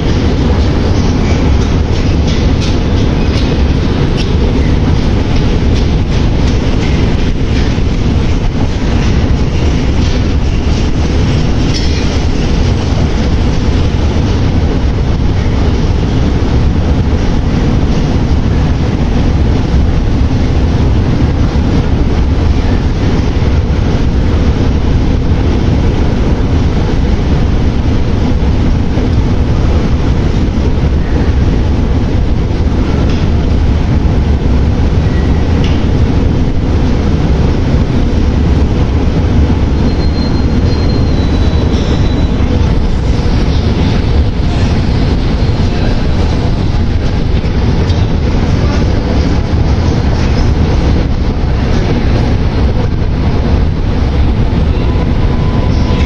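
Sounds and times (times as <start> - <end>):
metro train rumbling on rails: 0.0 - 56.0.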